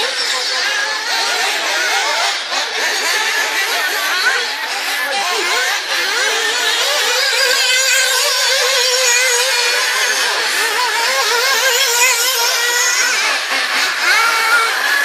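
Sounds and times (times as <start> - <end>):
high-pitched model buggy motors: 0.0 - 15.0.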